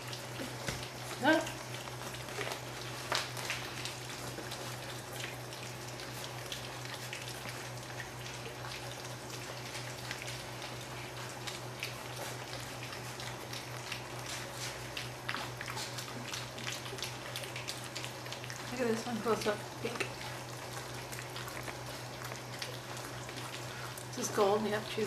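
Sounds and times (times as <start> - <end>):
puppies lapping food: 0.0 - 25.0.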